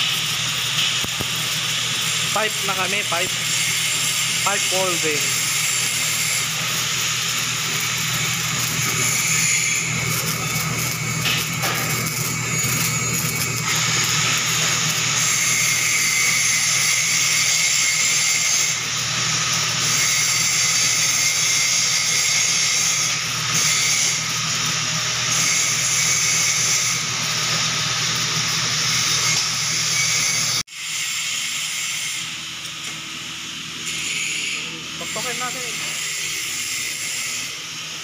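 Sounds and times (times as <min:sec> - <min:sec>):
welding arc hissing and crackling: 0:00.0 - 0:38.0.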